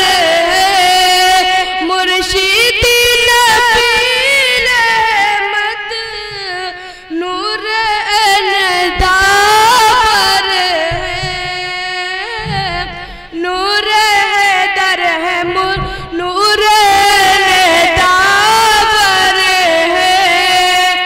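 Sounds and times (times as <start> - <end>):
boy singing into microphone: 0.0 - 21.0.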